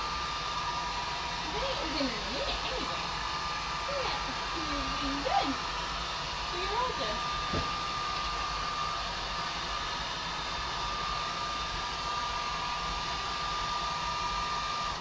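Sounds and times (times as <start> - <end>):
hair dryer blowing with whine: 0.0 - 15.0.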